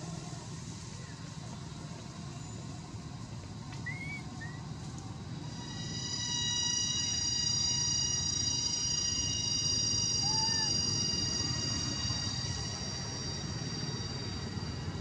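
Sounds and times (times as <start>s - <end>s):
high-pitched insect drone: 0.8s - 15.0s.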